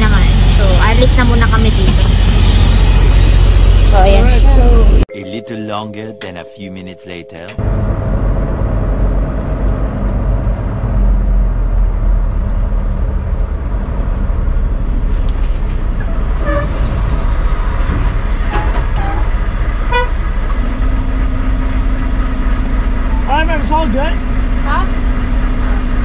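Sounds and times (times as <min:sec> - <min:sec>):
diesel truck engine rumble: 0:00.0 - 0:05.1, 0:07.4 - 0:26.0.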